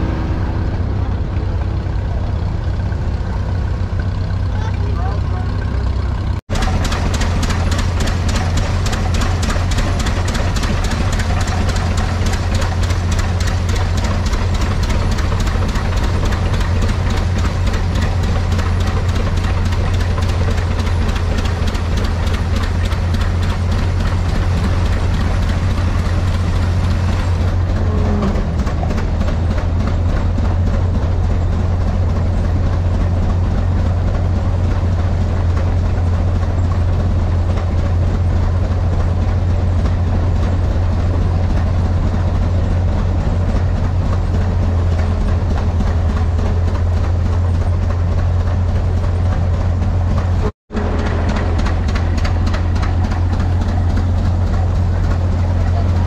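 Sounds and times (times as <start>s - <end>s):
threshing machine running: 0.0s - 56.0s.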